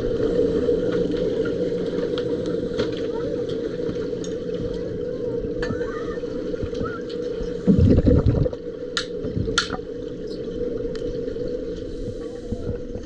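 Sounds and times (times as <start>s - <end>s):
gurgling exhaled bubbles: 0.0s - 13.0s
steady low underwater hum: 0.0s - 13.0s.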